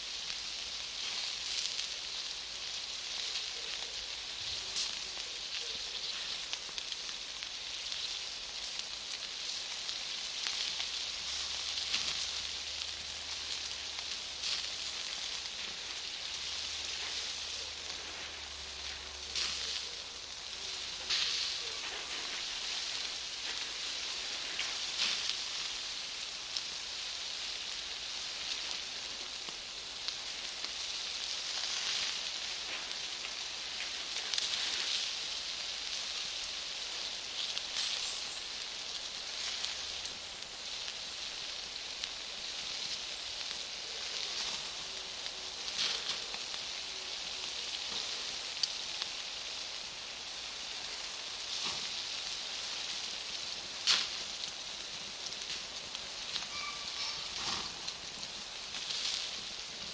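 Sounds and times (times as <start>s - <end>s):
charcoal popping and crackling: 0.0s - 59.9s
fire hissing: 0.0s - 59.9s.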